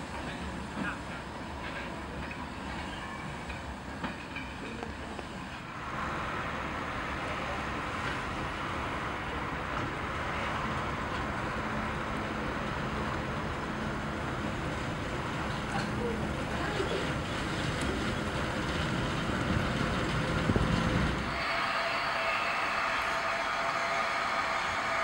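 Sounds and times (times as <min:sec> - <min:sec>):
freight train on track: 0:00.0 - 0:25.0
diesel locomotive engine running: 0:03.4 - 0:25.0.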